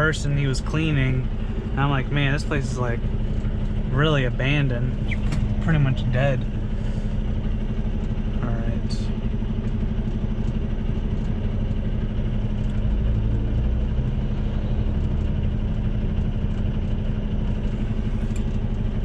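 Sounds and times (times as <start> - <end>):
diesel truck engine running: 0.0 - 19.0
road noise: 0.0 - 19.0.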